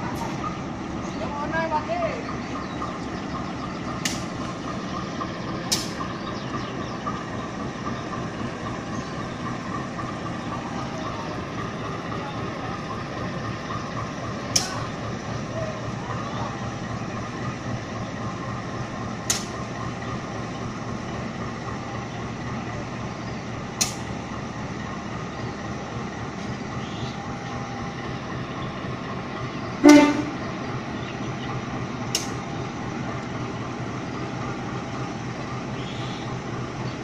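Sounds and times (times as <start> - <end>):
diesel locomotive idling: 0.0 - 37.0.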